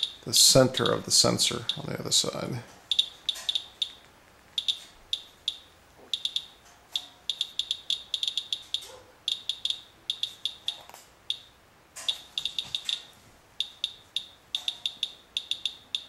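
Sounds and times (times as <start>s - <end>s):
geiger counter chirping: 0.0s - 1.0s, 2.9s - 4.0s, 4.6s - 11.5s, 12.1s - 16.0s.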